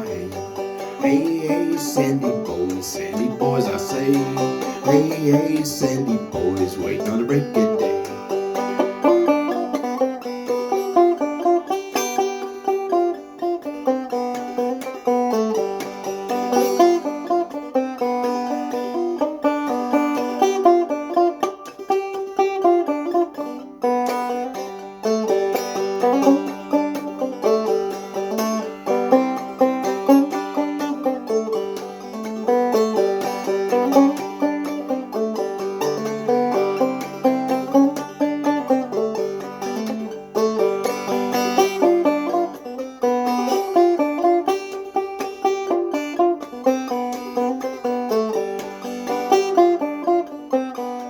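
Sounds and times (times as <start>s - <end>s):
banjo played clawhammer style: 0.0s - 51.0s.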